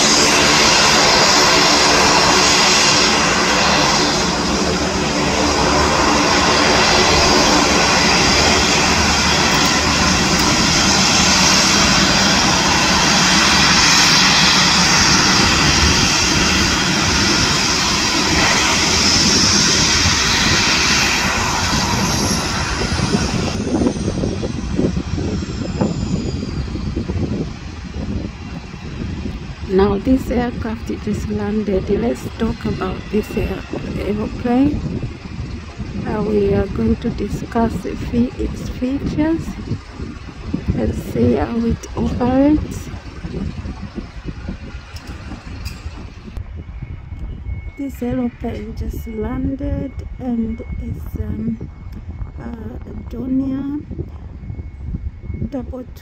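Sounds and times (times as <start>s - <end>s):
propeller noise: 0.0s - 56.0s
turboprop engines idling: 0.0s - 56.0s.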